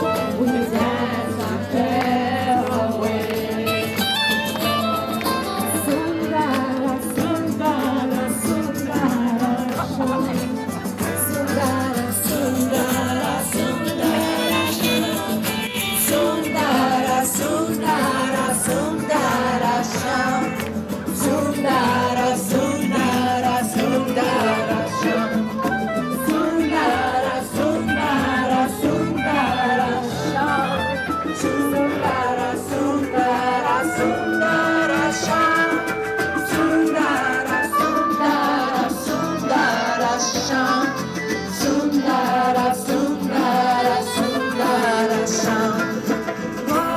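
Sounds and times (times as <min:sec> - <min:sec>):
acoustic guitars: 0:00.0 - 0:46.9
hand percussion: 0:00.0 - 0:46.9
person singing: 0:00.0 - 0:46.9.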